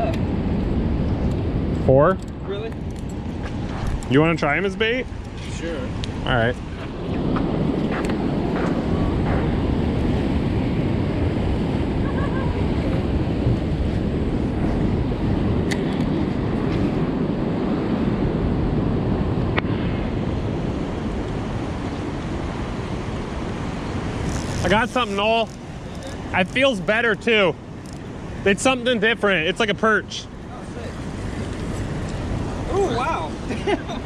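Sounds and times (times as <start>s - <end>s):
ocean surf: 0.0s - 34.0s
wind buffeting microphone: 0.0s - 34.0s.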